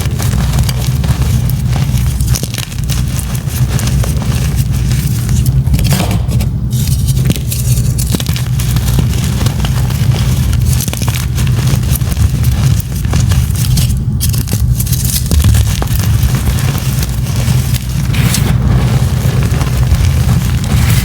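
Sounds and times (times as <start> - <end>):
chalk crunching: 0.0 - 6.0, 6.7 - 21.0
low rumble: 0.0 - 21.0.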